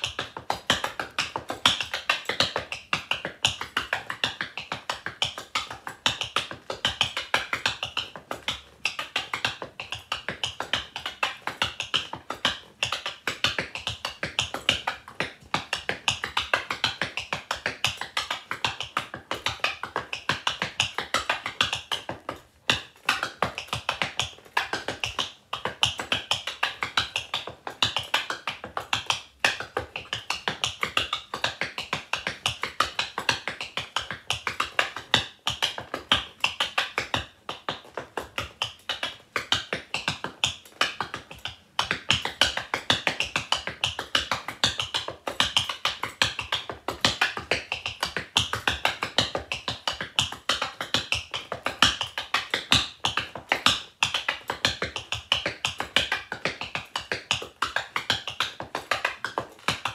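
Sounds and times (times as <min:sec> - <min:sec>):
tap shoes clicking on wooden floor: 0:00.0 - 0:59.9.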